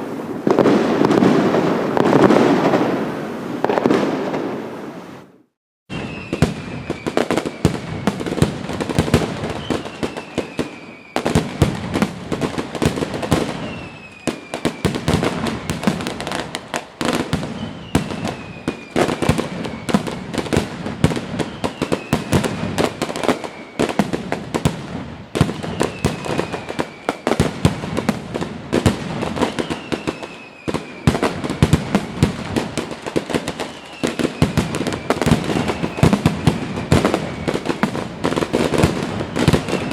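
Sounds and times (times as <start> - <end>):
fireworks popping and crackling: 0.0 - 5.3, 5.9 - 39.9
falling firework whistle: 5.9 - 39.9.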